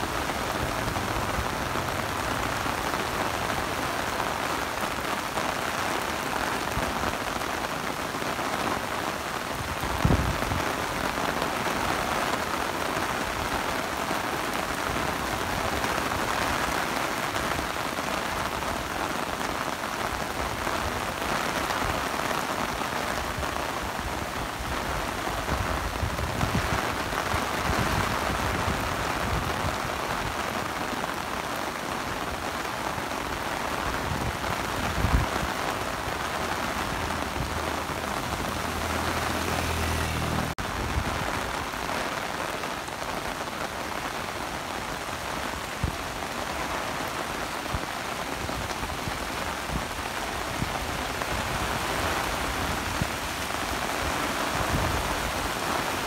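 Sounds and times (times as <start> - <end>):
heavy rain on wet pavement: 0.0 - 56.0.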